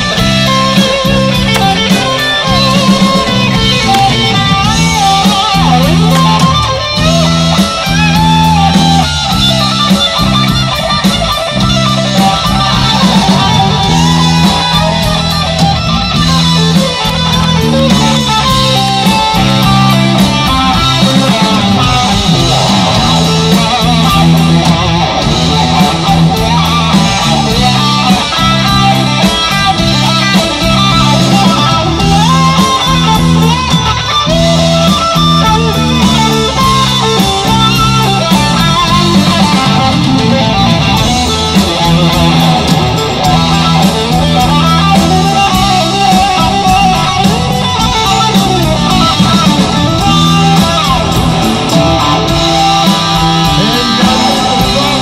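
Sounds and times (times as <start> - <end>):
electric guitar bending lead notes: 0.0 - 55.0
heavy rock band playing: 0.0 - 55.0.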